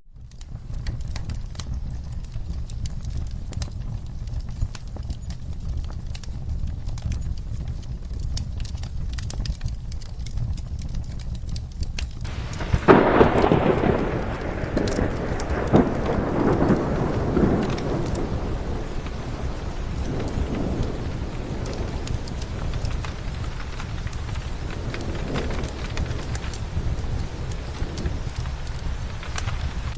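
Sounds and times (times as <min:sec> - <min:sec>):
fire crackling: 0:00.0 - 0:29.9
steady rain: 0:00.1 - 0:29.9
thunderclap rumbling: 0:00.1 - 0:29.9.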